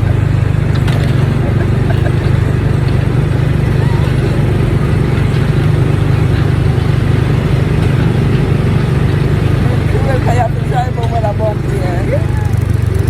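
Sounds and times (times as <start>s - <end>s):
small gasoline engine droning: 0.0s - 13.0s.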